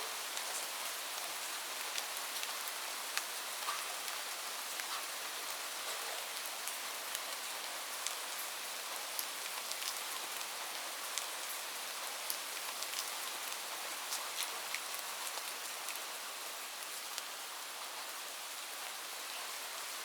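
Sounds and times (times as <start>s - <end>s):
light rain hissing: 0.0s - 20.0s
raindrops ticking on a surface: 0.1s - 20.0s.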